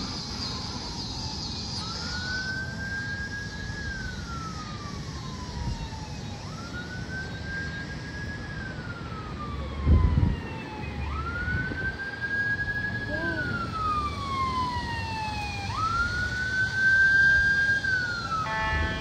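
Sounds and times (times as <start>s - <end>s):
emergency siren wailing: 0.0s - 19.0s
traffic rumble: 0.0s - 19.0s.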